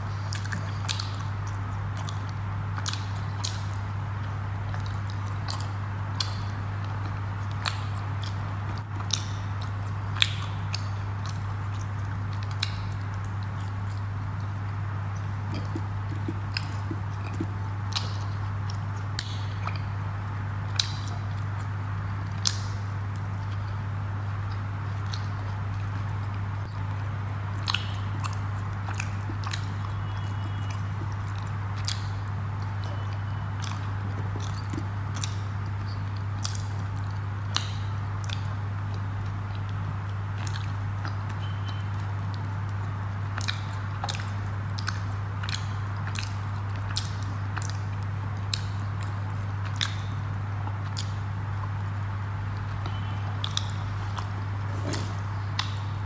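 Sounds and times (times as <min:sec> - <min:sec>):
steady low hum: 0:00.0 - 0:56.0
person chewing with mouth smacks: 0:00.1 - 0:56.0.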